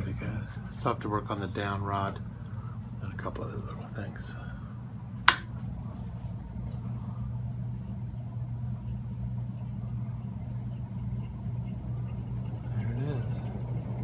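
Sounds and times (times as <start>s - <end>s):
ceiling fan motor humming: 0.0s - 14.0s.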